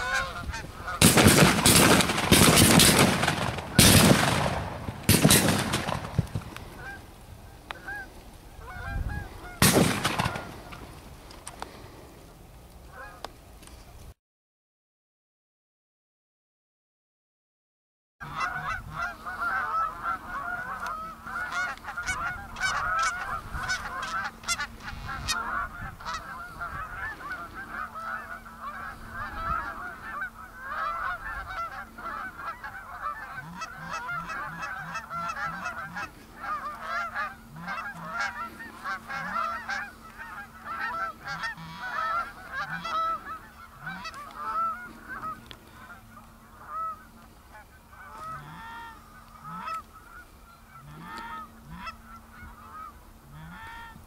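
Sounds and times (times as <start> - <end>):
geese honking: 0.0 - 13.4, 18.2 - 54.0.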